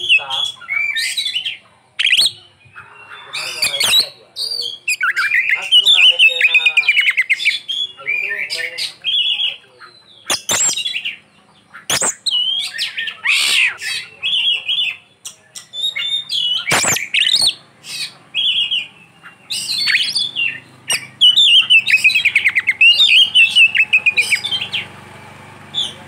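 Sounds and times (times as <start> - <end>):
songbird whistled song: 0.0 - 25.0, 25.7 - 26.0
rapid bird trill: 0.0 - 26.0.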